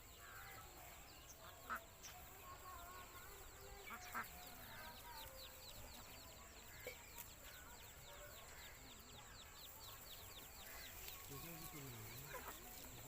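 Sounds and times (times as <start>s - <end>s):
ducklings peeping: 1.2s - 2.2s, 3.0s - 13.0s.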